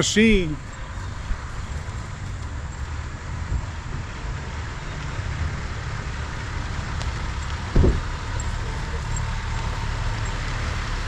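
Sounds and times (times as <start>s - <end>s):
excavator engine rumbling: 0.0s - 11.0s.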